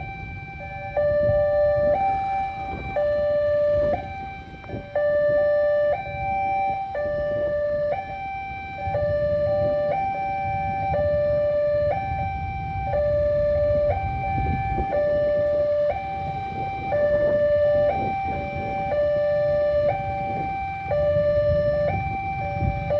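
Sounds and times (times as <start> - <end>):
level crossing alarm siren: 0.0 - 22.9.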